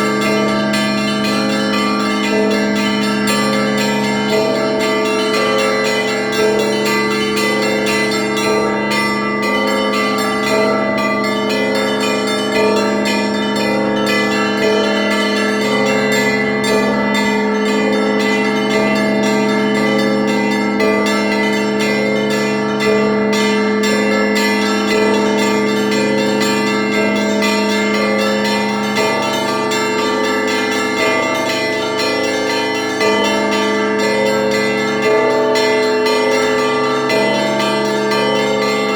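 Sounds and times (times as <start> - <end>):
large church bells tolling: 0.0 - 38.9
small church bells ringing: 0.0 - 38.9.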